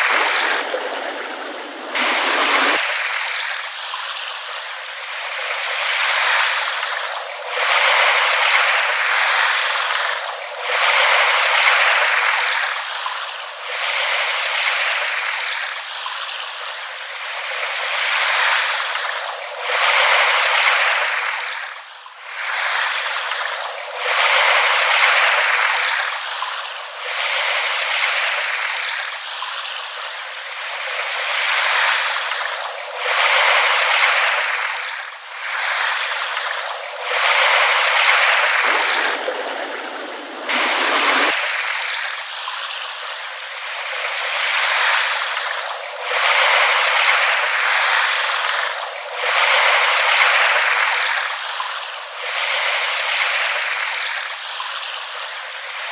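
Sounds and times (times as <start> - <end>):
small waves lapping on shore: 0.0 - 55.9.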